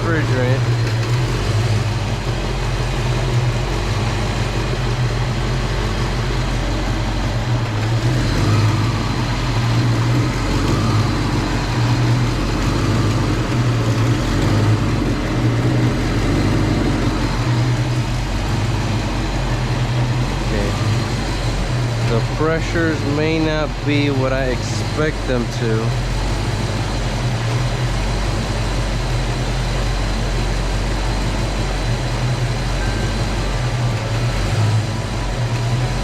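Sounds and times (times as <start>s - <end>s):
car engine idling unevenly: 0.0s - 36.0s.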